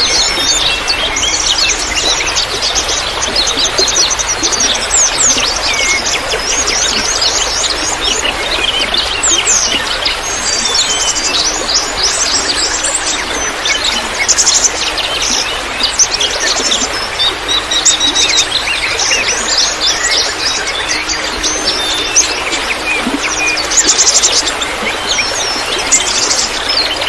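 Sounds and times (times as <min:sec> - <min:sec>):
songbirds chirping and trilling: 0:00.0 - 0:27.0
trickle of running water: 0:00.0 - 0:27.0.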